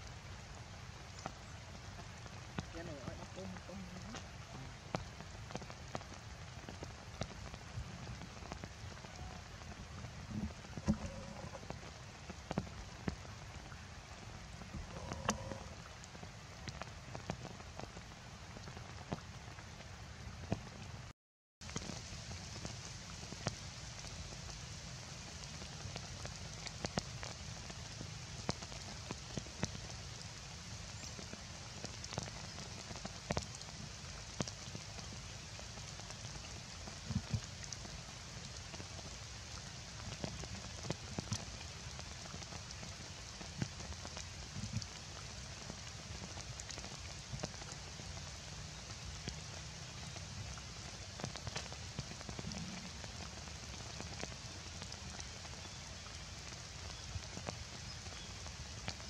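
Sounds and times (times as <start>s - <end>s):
heavy rain: 0.0s - 59.0s
raindrops tapping close by: 0.0s - 59.0s.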